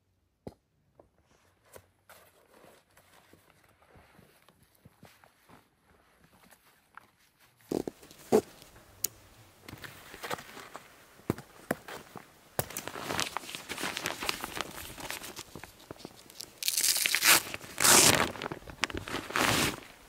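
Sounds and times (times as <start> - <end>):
material crinkling rustle: 2.1 - 20.0.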